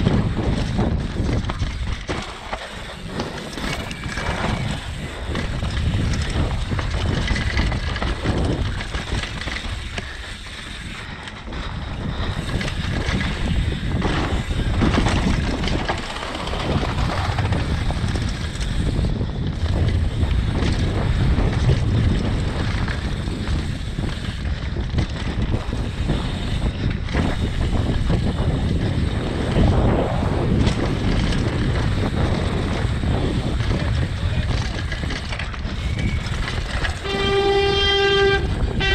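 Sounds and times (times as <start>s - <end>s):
bike rattling and knocking: 0.0s - 38.9s
tyres on loose dirt: 0.0s - 38.9s
wind rushing over microphone: 0.0s - 38.9s.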